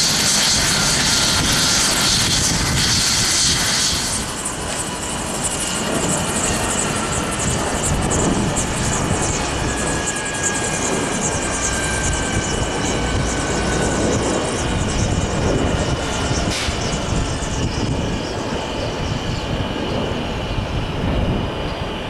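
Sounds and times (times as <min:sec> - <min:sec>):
helicopter turbine whine: 0:00.0 - 0:22.0.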